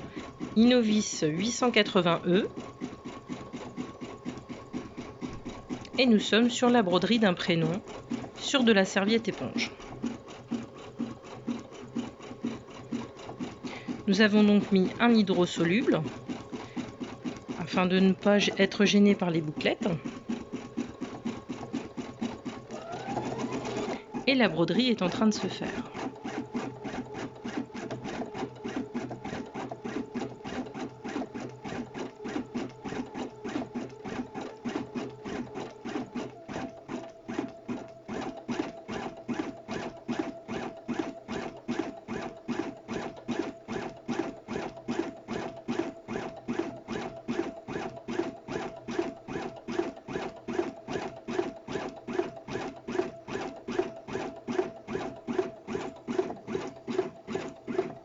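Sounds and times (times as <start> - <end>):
embroidery machine stitching: 0.0 - 58.0.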